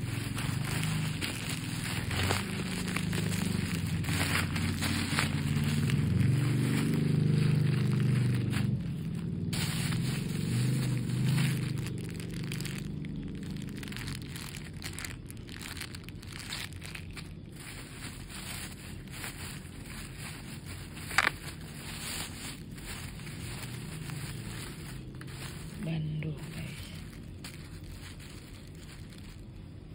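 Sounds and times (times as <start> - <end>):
bubble wrap crinkling: 0.0 - 29.9
low background rumble: 0.0 - 29.9.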